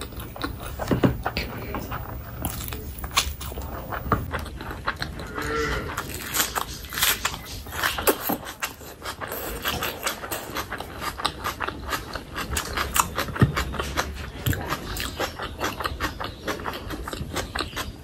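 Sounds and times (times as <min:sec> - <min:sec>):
wet chewing and lip-smacking: 0:00.0 - 0:05.3, 0:05.9 - 0:18.0.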